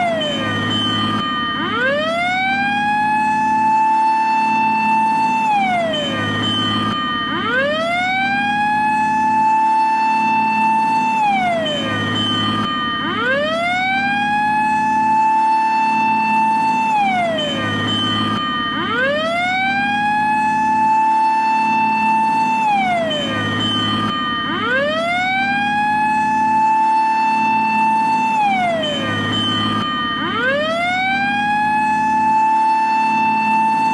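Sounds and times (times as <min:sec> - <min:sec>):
fire engine siren wailing: 0:00.0 - 0:33.9.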